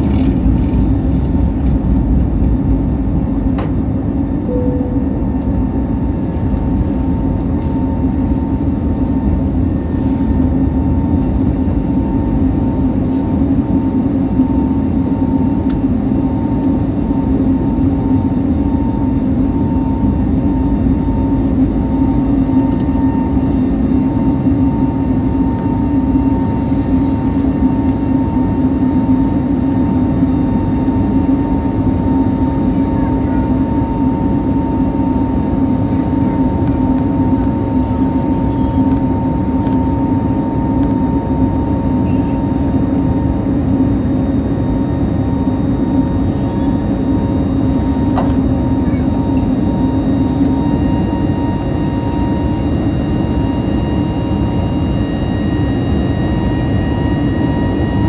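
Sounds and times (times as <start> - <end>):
airplane cabin engine hum: 0.0 - 58.0.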